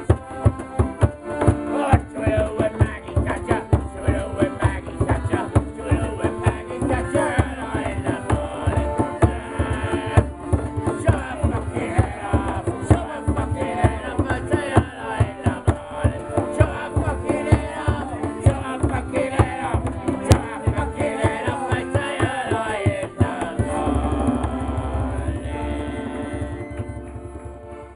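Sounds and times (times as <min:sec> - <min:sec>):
men singing: 0:00.0 - 0:27.1
piano accordion playing: 0:00.0 - 0:27.9.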